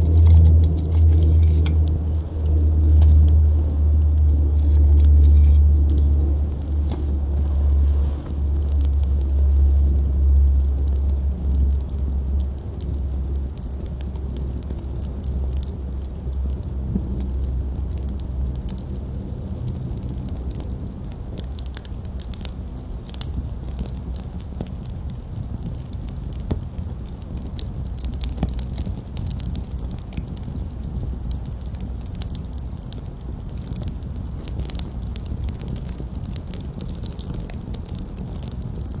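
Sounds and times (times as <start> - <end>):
campfire crackles and pops: 0.0 - 39.0
low steady fire rumble: 0.0 - 39.0.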